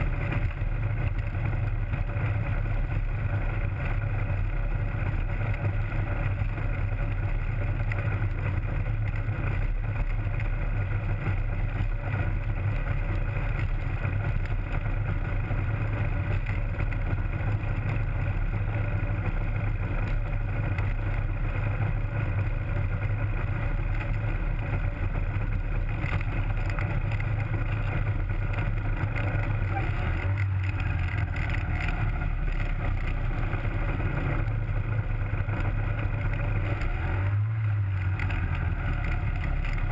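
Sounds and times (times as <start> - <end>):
ultralight aircraft engine droning: 0.0 - 39.9.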